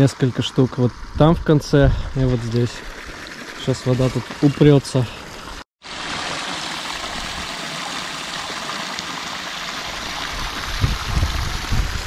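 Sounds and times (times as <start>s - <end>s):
water running in a ditch: 0.0s - 12.0s.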